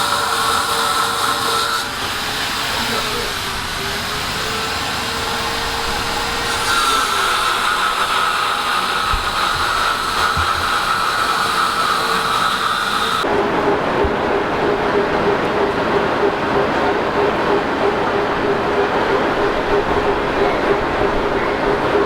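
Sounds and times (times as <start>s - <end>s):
machinery whine: 0.0s - 22.0s
mechanical hum: 0.0s - 22.0s.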